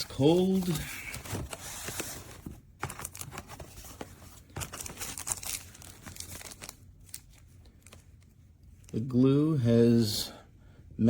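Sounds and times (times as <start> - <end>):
packaging rustling and crinkling: 0.0 - 9.0.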